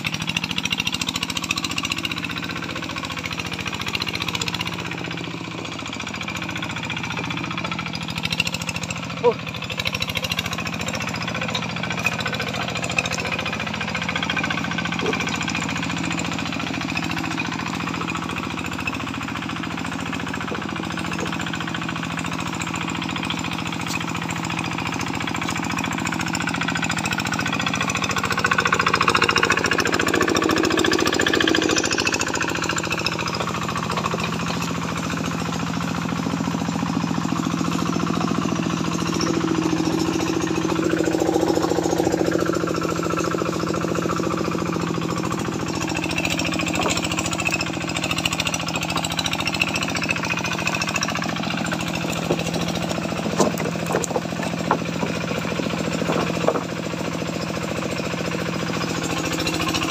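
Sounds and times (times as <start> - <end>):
single-cylinder diesel engine running: 0.0 - 59.9.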